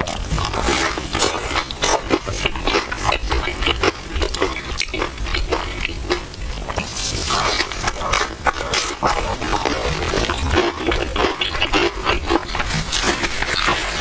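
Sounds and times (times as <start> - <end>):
wet chewing smacks and clicks: 0.0 - 14.0.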